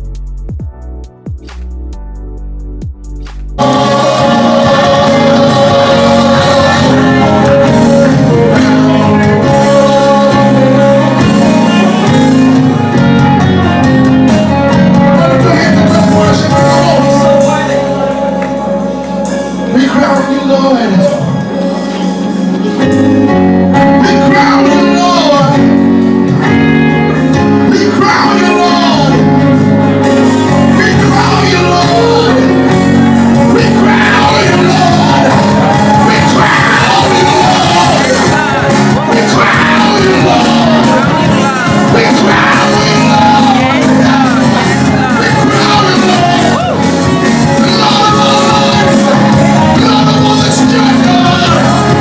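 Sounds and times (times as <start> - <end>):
loud music with held notes: 0.0 - 52.0.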